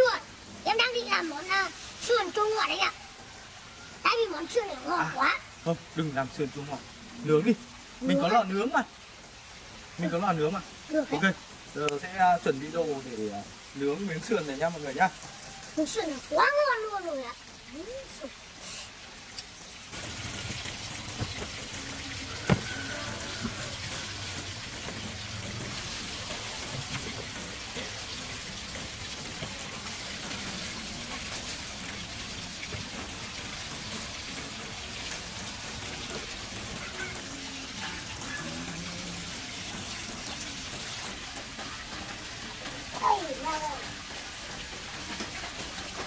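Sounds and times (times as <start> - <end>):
stream water hissing: 0.0 - 46.0.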